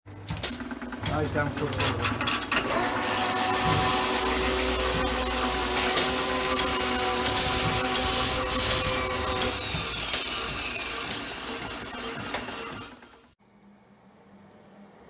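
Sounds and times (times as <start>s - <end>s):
machine motor whining: 0.3s - 13.4s.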